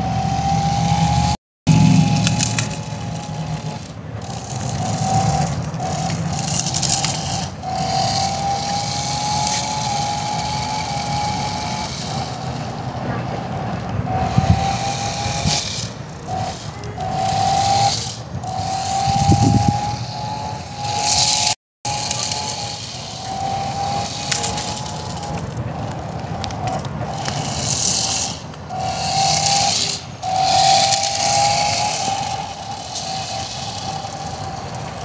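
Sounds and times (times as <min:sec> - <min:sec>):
rc car motor whining: 0:00.0 - 0:35.0
tyres hissing and scrubbing: 0:00.0 - 0:35.0.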